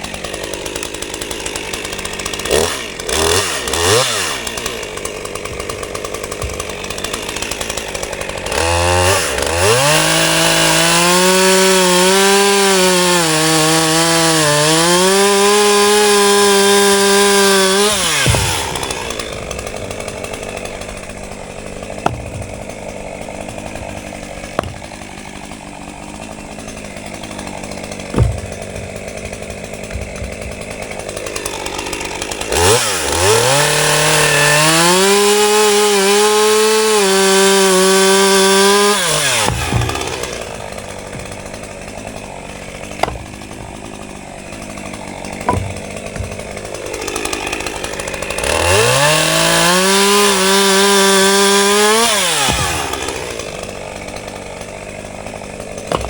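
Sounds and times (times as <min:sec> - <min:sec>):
chainsaw revving: 0:00.0 - 0:56.0
sharp knocks: 0:03.8 - 0:11.2, 0:16.6 - 0:35.4, 0:36.1 - 0:49.2, 0:49.8 - 0:56.0.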